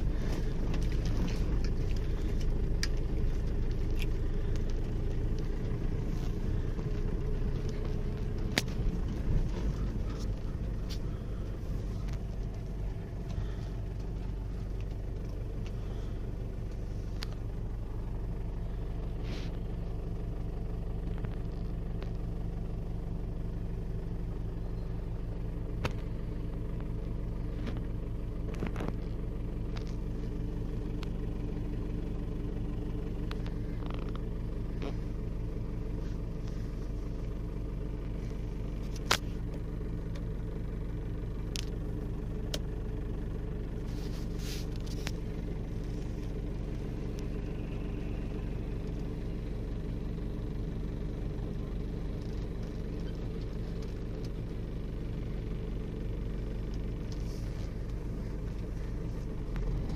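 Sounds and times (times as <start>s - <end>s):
low engine and road drone: 0.0s - 59.9s.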